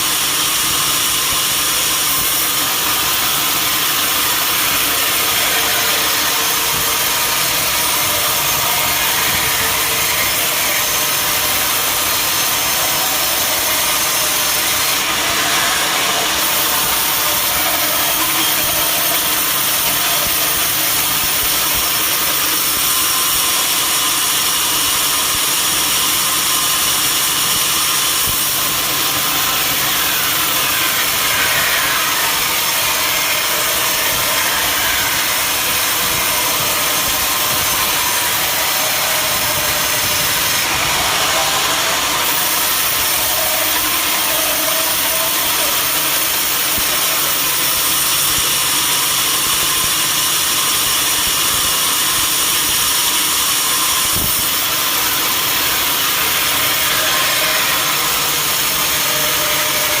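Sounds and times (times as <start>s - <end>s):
sawmill saw cutting wood: 0.0s - 60.0s.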